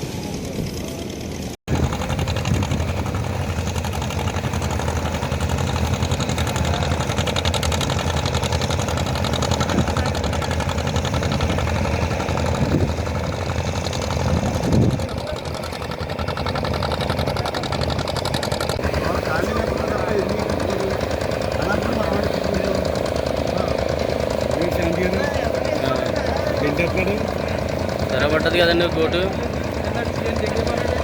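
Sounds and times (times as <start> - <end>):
boat diesel engine knocking: 0.7 - 31.0.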